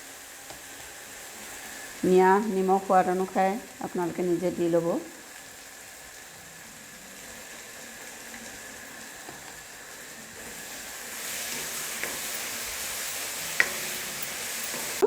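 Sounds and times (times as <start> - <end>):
sauce sizzling in oil: 0.0 - 15.0.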